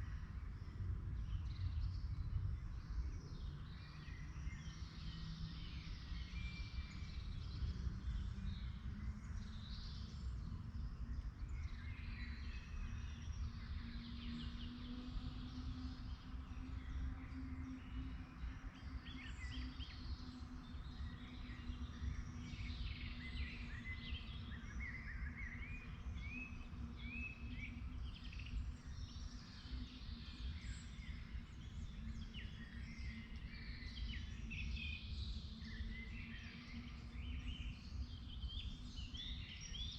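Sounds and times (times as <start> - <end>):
songbirds chirping and singing: 2.8 - 39.9.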